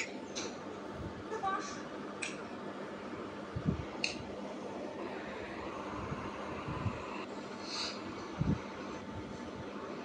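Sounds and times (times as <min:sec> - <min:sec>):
ceiling fan whir: 0:00.0 - 0:10.0.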